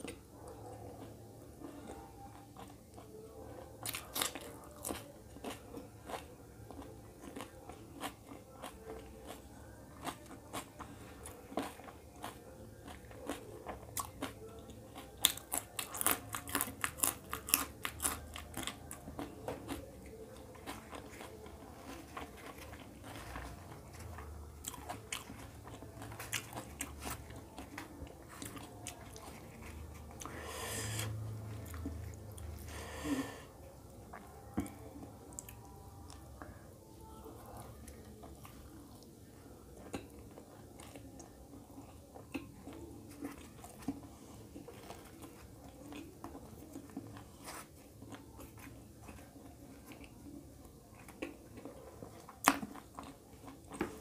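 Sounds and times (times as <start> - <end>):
chewing with mouth clicks: 0.0 - 33.2, 33.8 - 36.6, 37.3 - 54.0
crunching chilli: 0.0 - 33.2, 37.3 - 54.0.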